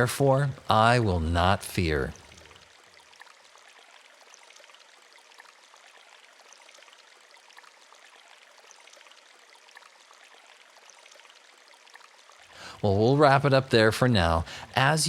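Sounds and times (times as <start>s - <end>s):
stream running water: 0.0s - 15.0s.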